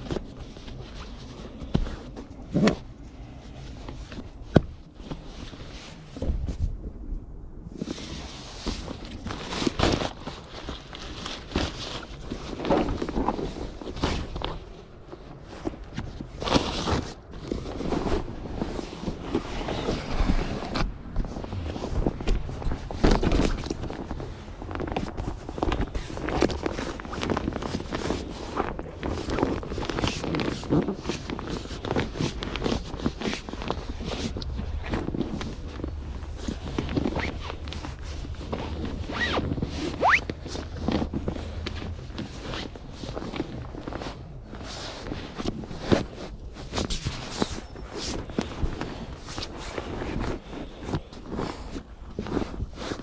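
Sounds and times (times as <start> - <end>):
fabric rustling and scraping: 0.0 - 6.8, 7.7 - 53.0
wind buffeting microphone: 0.0 - 52.8.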